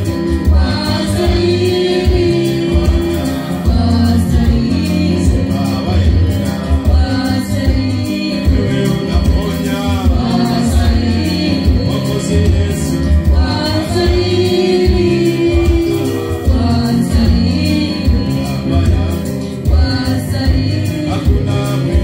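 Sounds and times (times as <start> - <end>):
steady bass beat: 0.0 - 22.0
voices singing gospel music: 0.0 - 22.0.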